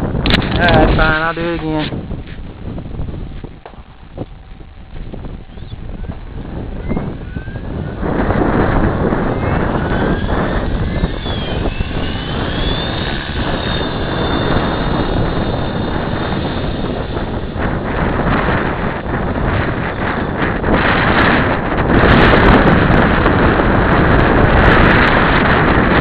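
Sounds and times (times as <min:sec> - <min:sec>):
rc helicopter rotor noise: 0:00.0 - 0:26.0
high-pitched whining squeal: 0:00.6 - 0:25.7.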